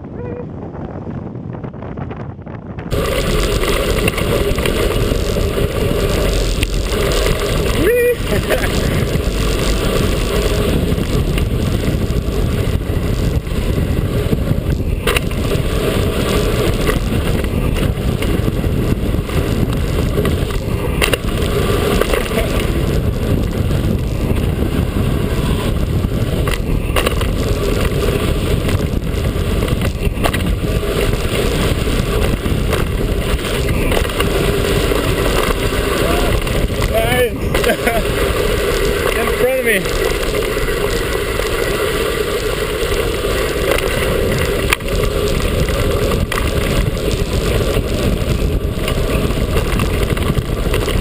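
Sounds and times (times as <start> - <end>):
wind rushing on microphone: 0.0 - 51.0
bike tyres rolling on dirt: 1.4 - 51.0.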